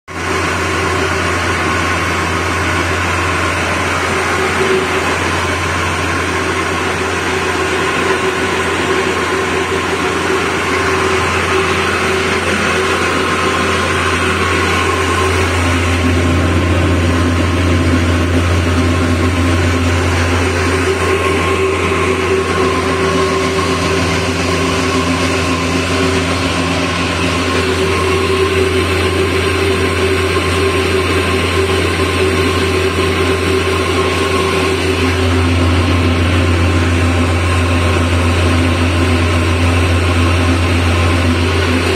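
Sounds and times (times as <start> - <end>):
electric motor humming: 0.6 - 41.9.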